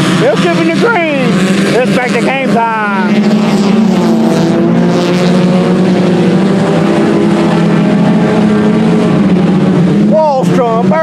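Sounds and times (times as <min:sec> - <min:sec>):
race car engines at speed: 0:00.0 - 0:11.0.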